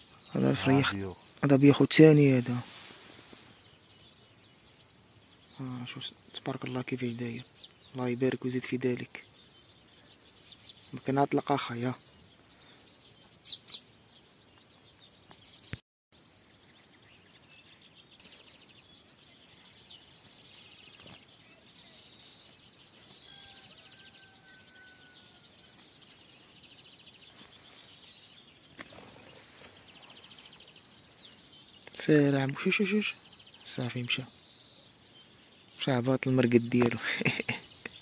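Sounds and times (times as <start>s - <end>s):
songbirds twittering: 0.0s - 38.0s.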